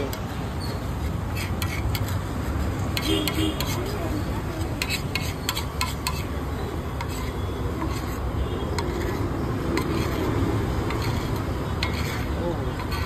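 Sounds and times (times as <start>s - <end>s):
metal spatula scraping a pan: 0.6s - 13.0s.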